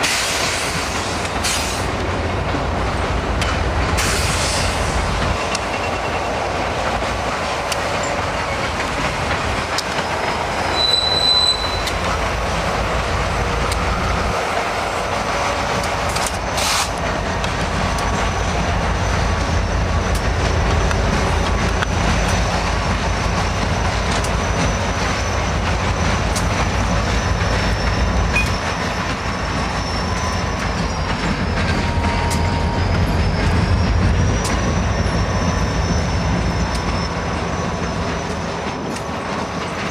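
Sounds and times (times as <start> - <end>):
train rumble: 0.0 - 39.9
steel wheels squealing: 4.0 - 39.9
wheels clicking over rail joints: 5.2 - 39.9.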